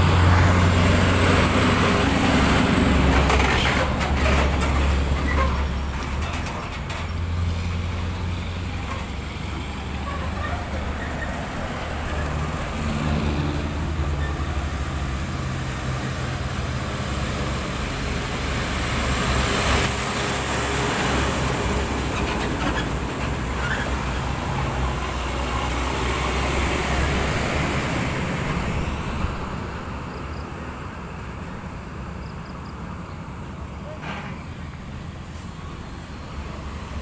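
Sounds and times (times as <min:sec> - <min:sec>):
heavy diesel truck passing: 0:00.0 - 0:37.0
tyre and trailer noise: 0:00.0 - 0:37.0.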